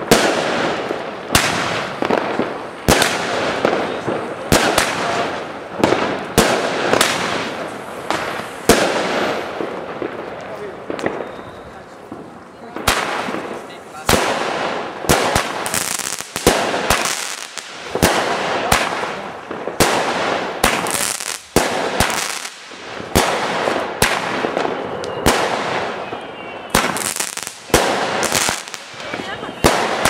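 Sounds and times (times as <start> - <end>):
fireworks bangs: 0.0 - 30.0
fireworks crackling hiss: 0.0 - 30.0.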